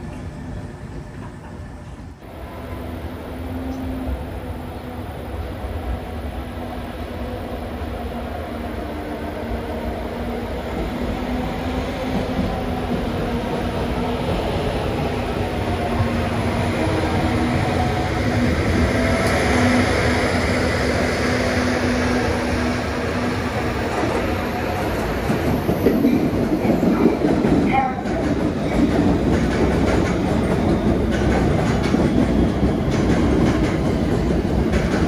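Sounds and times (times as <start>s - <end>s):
passenger train passing: 0.0s - 35.0s.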